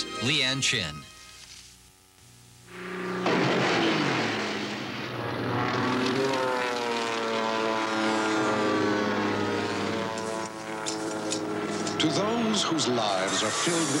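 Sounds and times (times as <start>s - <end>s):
propeller airplane engine flying past: 2.7s - 14.0s.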